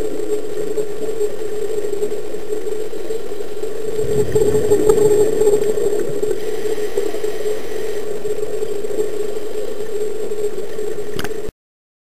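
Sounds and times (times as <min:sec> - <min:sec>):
underwater engine drone: 0:00.0 - 0:11.5.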